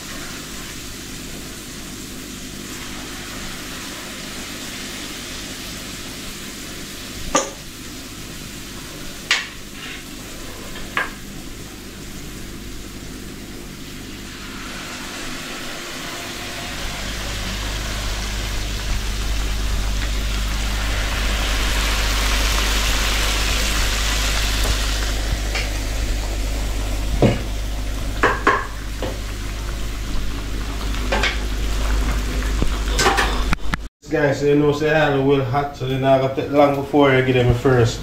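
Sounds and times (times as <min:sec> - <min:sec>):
batter sizzling in hot oil: 0:00.0 - 0:33.5.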